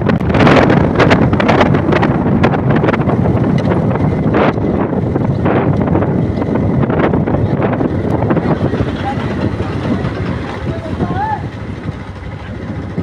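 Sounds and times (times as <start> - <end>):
motorcycle running: 0.0 - 13.0
wind buffeting microphone: 0.0 - 13.0.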